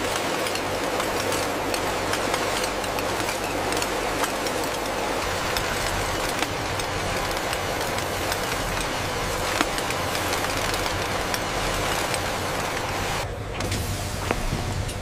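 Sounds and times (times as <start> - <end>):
factory machinery hum and hiss: 0.0 - 15.0.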